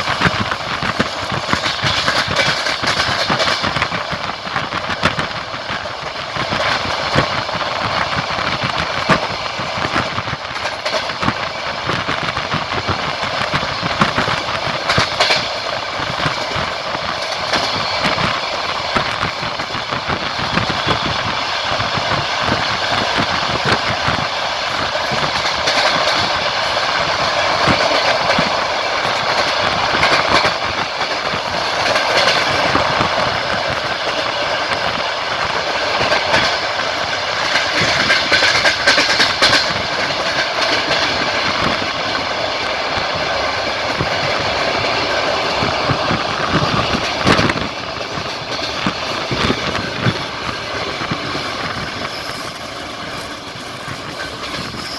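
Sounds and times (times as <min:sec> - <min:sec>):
train wheels rolling on track: 0:00.0 - 0:54.9
wheels clicking over rail joints: 0:00.0 - 0:54.9.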